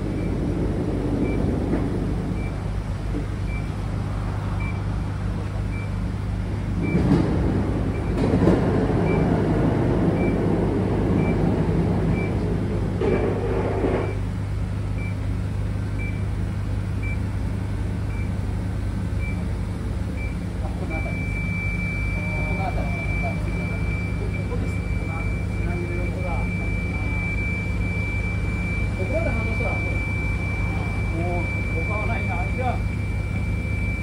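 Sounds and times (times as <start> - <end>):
idling vehicle engines hum: 0.0 - 34.0.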